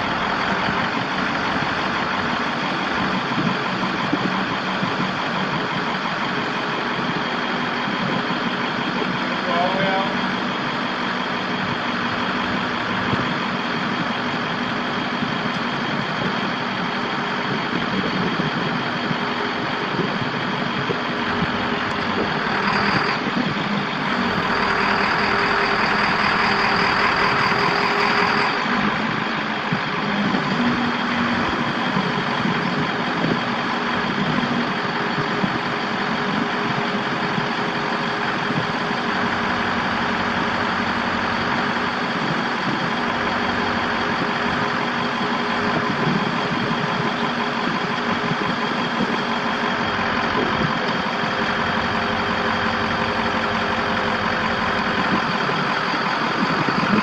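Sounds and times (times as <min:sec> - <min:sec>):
diesel engine running: 0:00.0 - 0:57.0
higher whine: 0:00.0 - 0:57.0.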